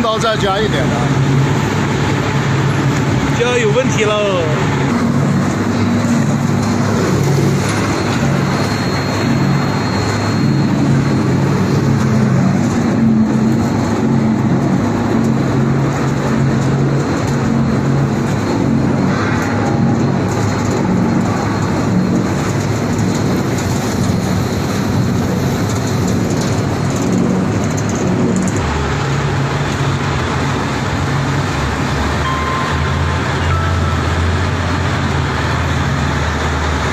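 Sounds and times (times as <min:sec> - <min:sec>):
machinery din with hum and hiss: 0:00.0 - 0:36.9.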